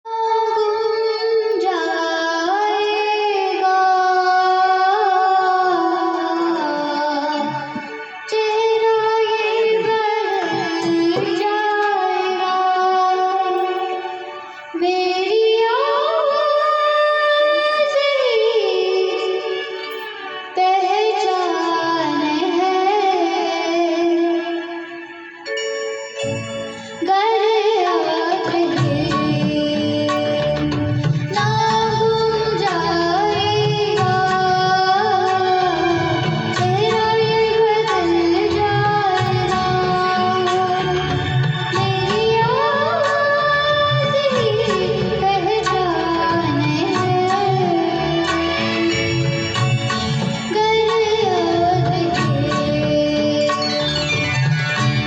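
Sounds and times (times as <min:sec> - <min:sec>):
girl singing slow melody: 0:00.1 - 0:25.1, 0:27.0 - 0:49.3, 0:50.4 - 0:54.2
tabla playing: 0:00.7 - 0:16.2, 0:26.2 - 0:55.0.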